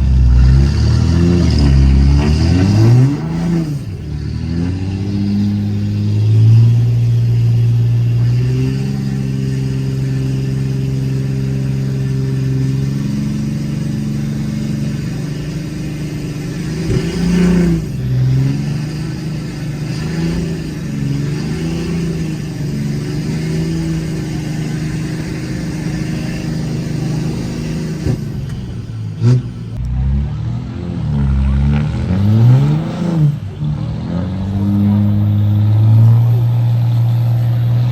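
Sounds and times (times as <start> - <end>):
diesel truck engine under load: 0.0 - 37.9.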